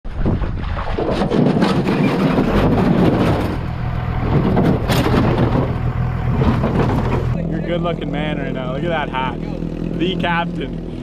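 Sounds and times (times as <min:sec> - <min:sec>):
metal boat scraping over gravel: 0:00.2 - 0:09.2
low engine hum: 0:02.0 - 0:11.0.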